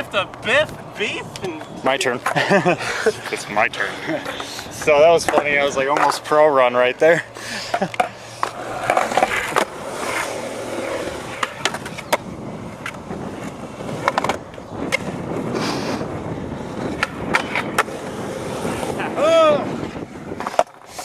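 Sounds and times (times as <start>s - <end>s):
skateboard clacking on ground: 0.0s - 2.5s, 3.1s - 15.2s, 16.9s - 18.9s, 20.3s - 21.0s
skateboard wheels rumbling: 0.0s - 21.0s.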